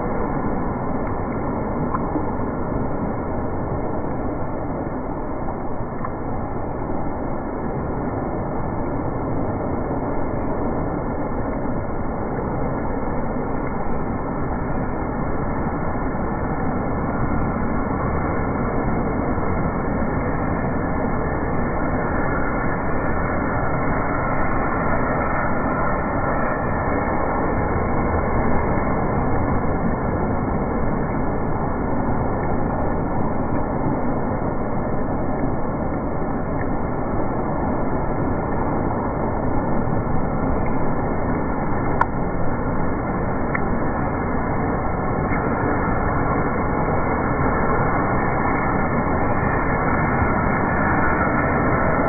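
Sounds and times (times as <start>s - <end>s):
heavy rain on pavement: 0.0s - 52.0s
rainwater rushing along curb: 0.0s - 52.0s.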